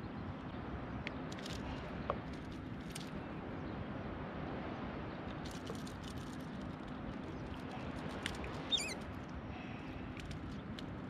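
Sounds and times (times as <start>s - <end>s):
open-water background noise: 0.0s - 11.0s.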